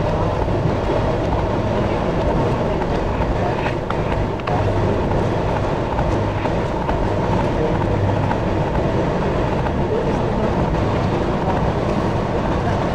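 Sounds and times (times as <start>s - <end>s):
train wheels on rails: 0.0s - 12.9s.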